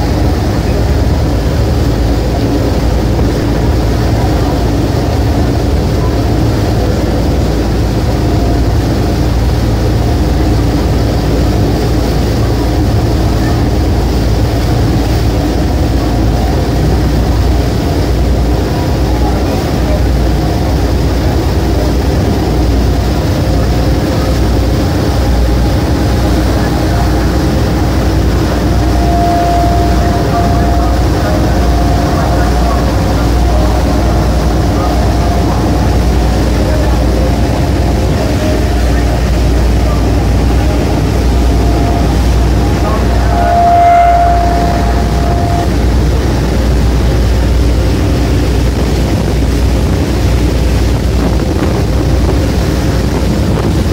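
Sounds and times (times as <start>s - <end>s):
boat engine rumbling: 0.0s - 53.9s
thin steady whine: 0.0s - 53.9s
wind and water rushing: 0.0s - 53.9s.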